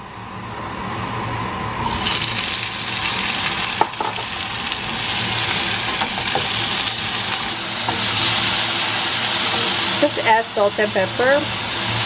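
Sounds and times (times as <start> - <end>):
tomatoes sizzling in hot oil: 1.8 - 12.0.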